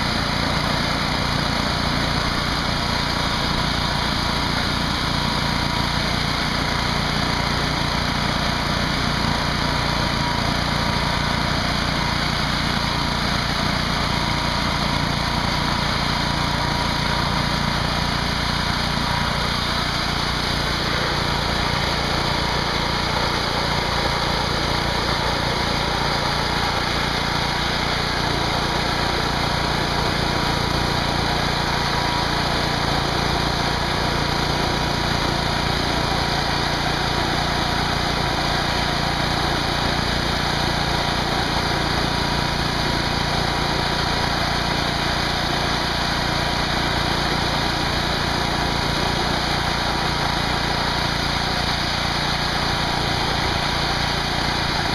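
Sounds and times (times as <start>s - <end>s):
pressure washer water jet hissing: 0.0s - 54.9s.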